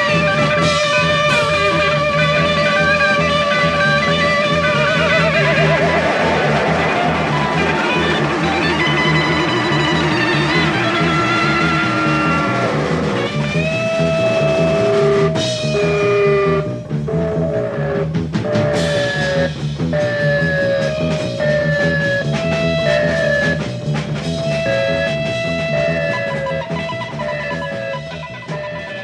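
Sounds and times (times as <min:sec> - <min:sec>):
drums and bass: 0:00.0 - 0:29.0
sliding electric guitar melody: 0:00.0 - 0:29.0.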